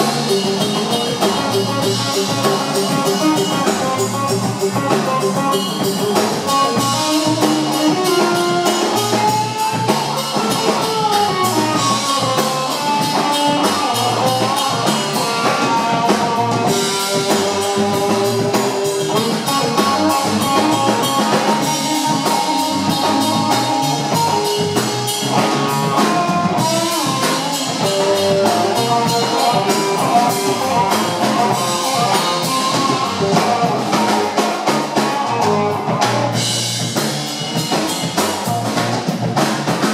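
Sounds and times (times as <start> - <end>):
drum kit with cymbals: 0.0 - 39.9
electric bass: 0.0 - 39.9
electric guitar: 0.0 - 39.9.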